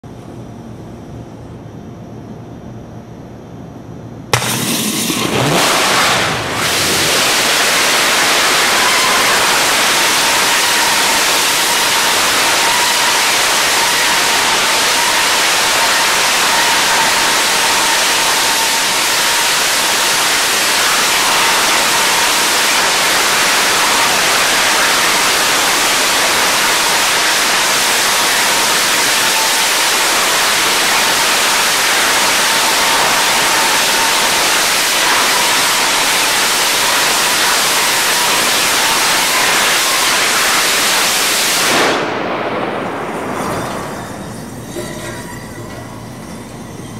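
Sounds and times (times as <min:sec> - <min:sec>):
rocket engine exhaust hiss: 0:04.3 - 0:44.9.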